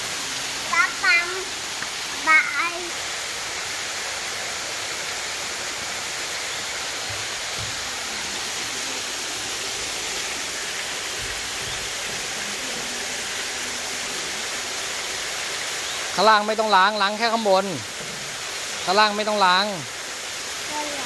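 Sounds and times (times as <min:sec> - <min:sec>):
water cascading into pool: 0:00.0 - 0:21.0.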